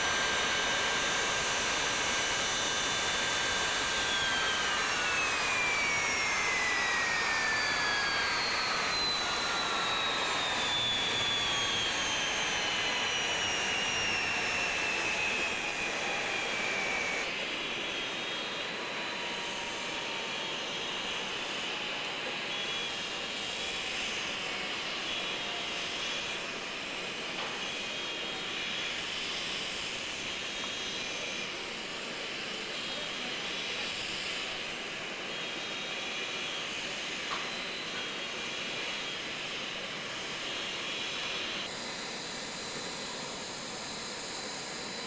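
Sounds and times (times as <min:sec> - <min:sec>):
jet engines spooling down: 0:00.0 - 0:45.0.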